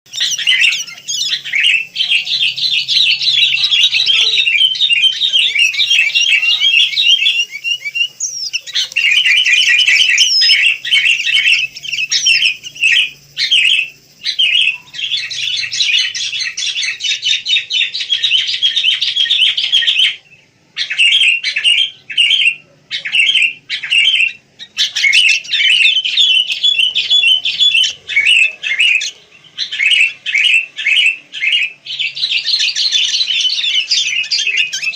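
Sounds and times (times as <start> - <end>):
bulbuls chirping: 0.1 - 34.9.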